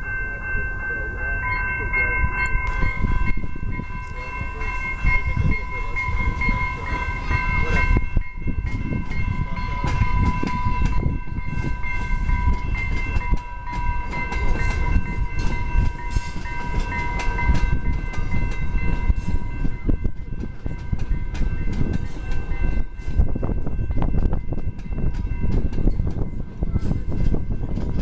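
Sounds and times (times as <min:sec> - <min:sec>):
train passing with low rumble: 0:00.0 - 0:28.0.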